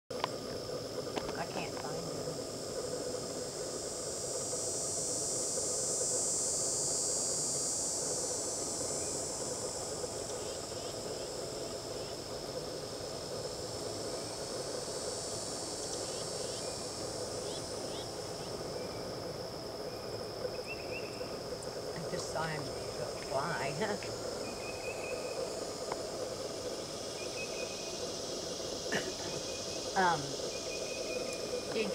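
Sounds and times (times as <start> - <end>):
chorus of crickets: 0.1 - 31.9.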